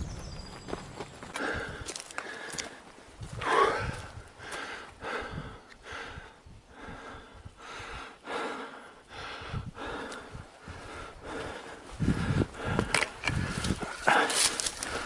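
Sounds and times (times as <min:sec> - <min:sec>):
person breathing heavily: 0:01.3 - 0:15.0.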